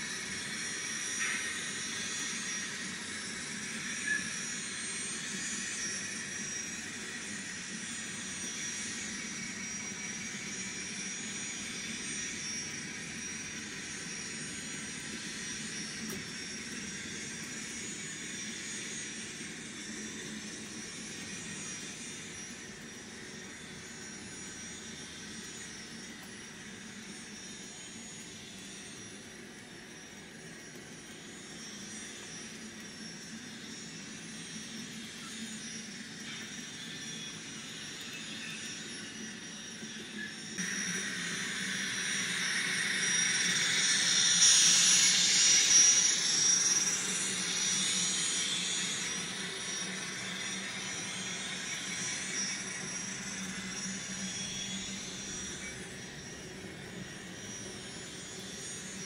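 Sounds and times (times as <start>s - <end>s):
model locomotive turbine sound: 0.0s - 59.0s.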